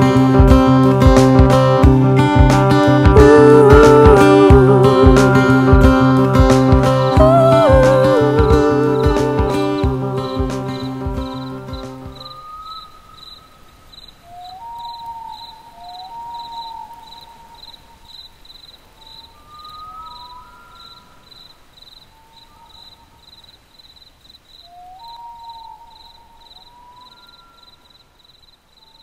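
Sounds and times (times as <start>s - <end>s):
cricket-like chirping: 3.8s - 29.0s.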